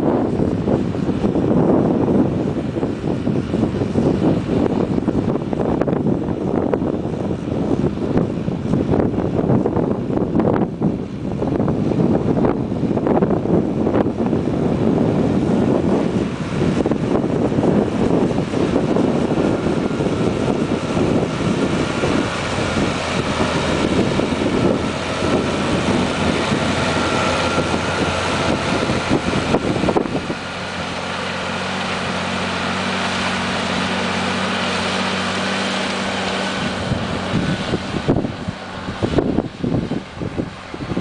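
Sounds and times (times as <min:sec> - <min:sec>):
tractor engine running: 0:00.0 - 0:41.0
wind buffeting microphone: 0:00.0 - 0:41.0.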